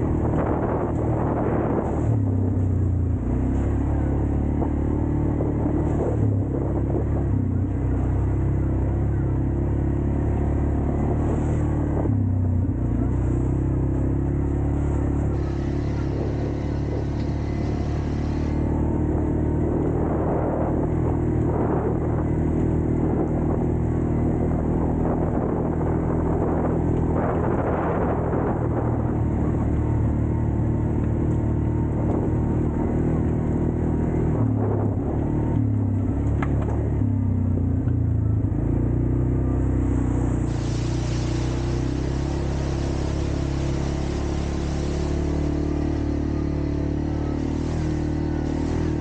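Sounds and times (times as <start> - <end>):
atv engine running: 0.0 - 49.0.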